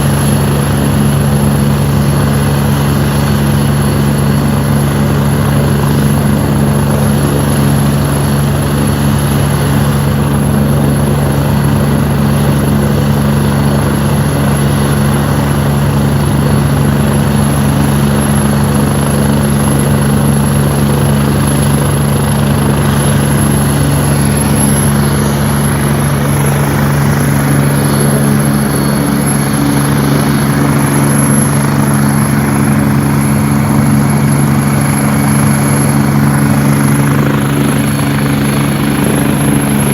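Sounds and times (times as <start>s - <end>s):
helicopter engine and rotor: 0.0s - 39.9s
high turbine whine: 0.0s - 39.9s.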